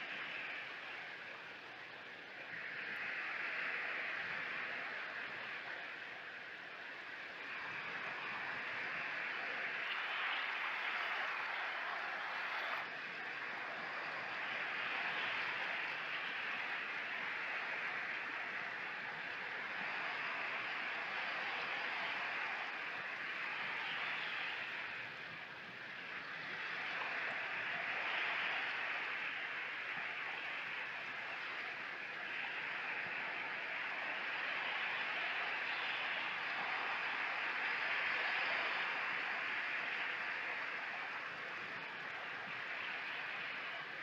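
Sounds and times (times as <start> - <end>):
waves washing up a shingle beach: 0.0 - 44.0.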